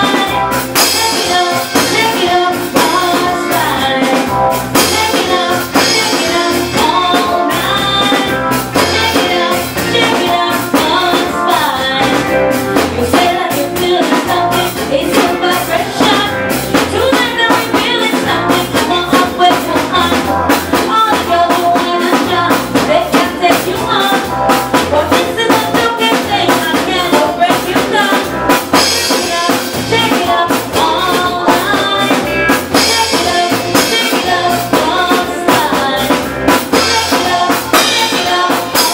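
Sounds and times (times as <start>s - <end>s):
drum kit: 0.0s - 38.9s
live band playing dance music: 0.0s - 38.9s
person singing: 0.0s - 38.9s.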